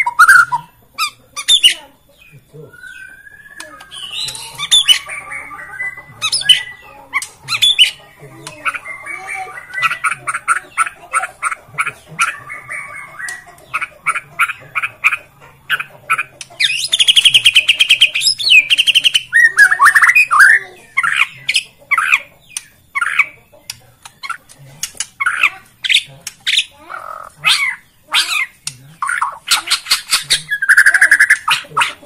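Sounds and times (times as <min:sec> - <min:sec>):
bird singing sharp notes and trills: 0:00.0 - 0:32.0.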